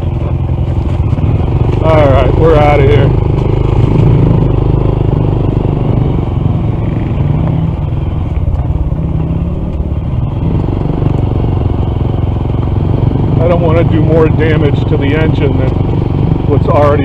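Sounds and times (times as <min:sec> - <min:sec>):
engine clattering: 0:00.0 - 0:17.0
motorcycle engine running: 0:00.0 - 0:17.0.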